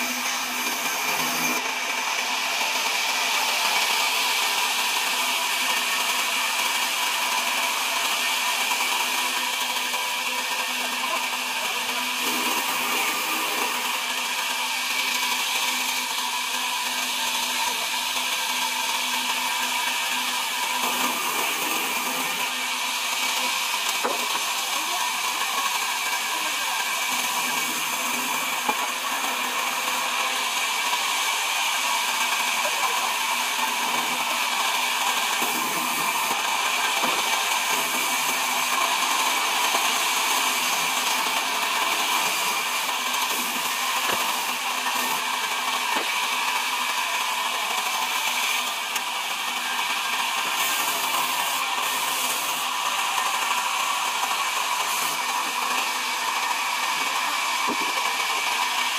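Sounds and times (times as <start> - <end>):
band saw cutting wood: 0.0 - 58.9.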